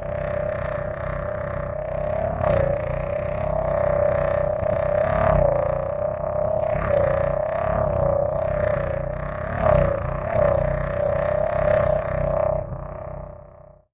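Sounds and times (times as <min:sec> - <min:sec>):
low droning buzz: 0:00.0 - 0:13.9.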